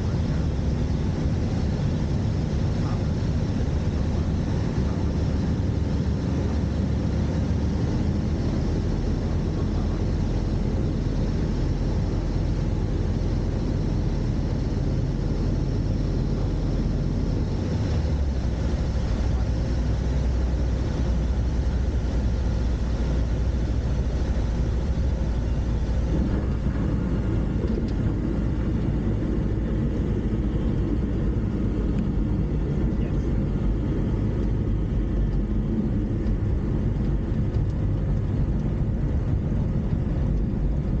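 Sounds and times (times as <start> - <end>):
airplane engine and propeller: 0.0 - 41.0.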